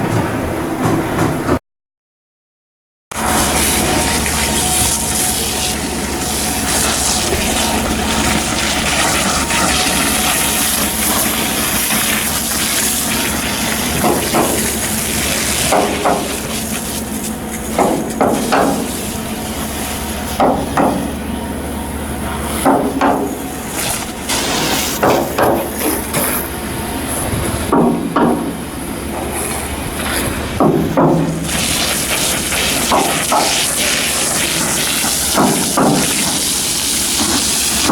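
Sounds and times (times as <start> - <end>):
shipyard work noise: 0.0 - 1.6, 3.1 - 37.9.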